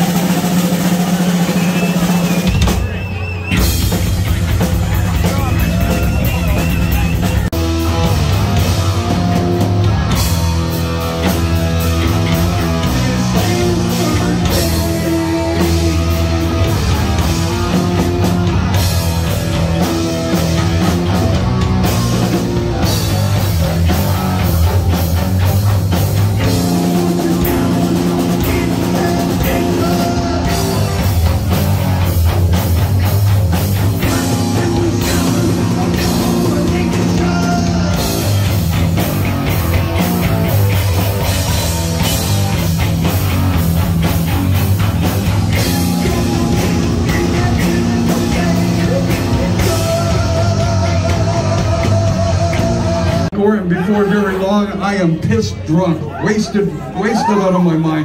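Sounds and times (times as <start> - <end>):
pounding drum kit: 0.0 - 54.3
bass guitar: 0.0 - 58.0
distorted guitars: 0.0 - 58.0.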